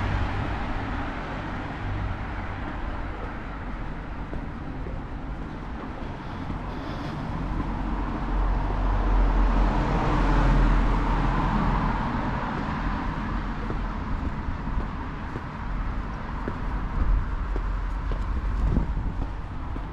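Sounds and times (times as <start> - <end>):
car passing: 0.0 - 19.9
low city hum: 0.0 - 19.9.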